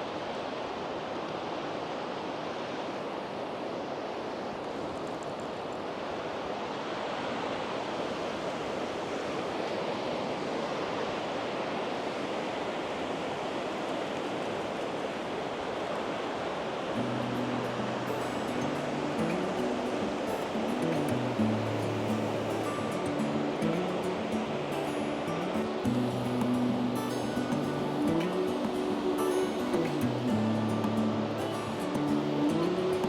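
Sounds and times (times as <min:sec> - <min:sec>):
sea waves washing onto beach: 0:00.0 - 0:33.0.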